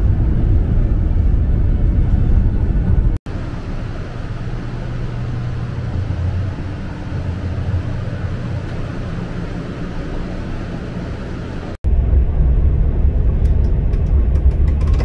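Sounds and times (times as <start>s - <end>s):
train running rumble inside: 0.0s - 15.0s.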